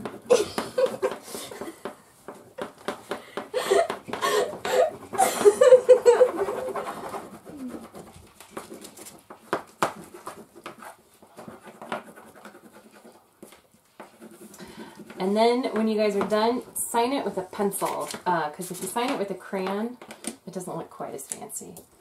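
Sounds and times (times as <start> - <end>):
crayons scratching on paper: 0.0 - 19.7.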